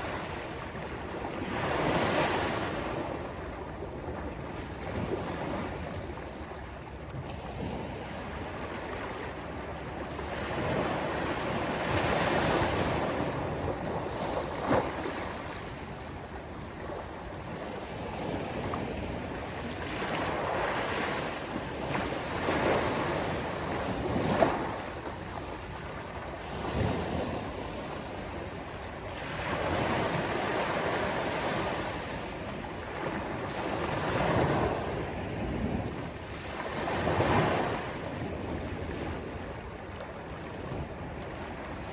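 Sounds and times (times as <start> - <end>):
sea waves breaking on beach: 7.2 - 41.9.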